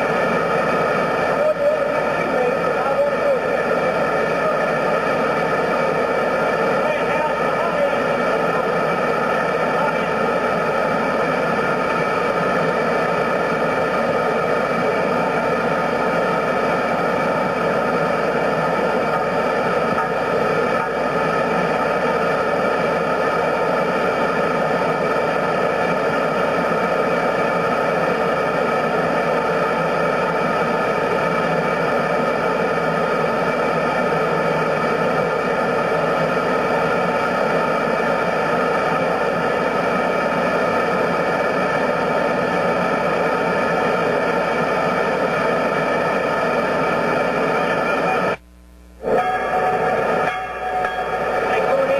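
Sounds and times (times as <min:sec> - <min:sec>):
gas burner rushing: 0:00.0 - 0:51.9.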